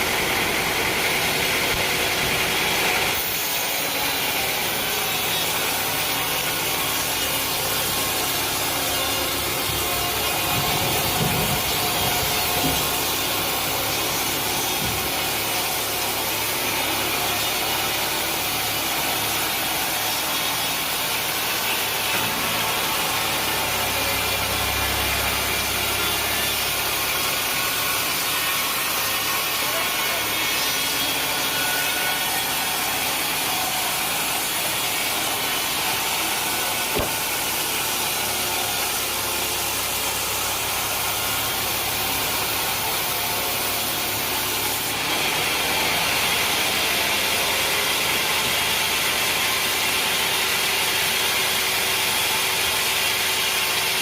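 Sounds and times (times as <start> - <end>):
saw cutting through wood: 0.0 - 54.0.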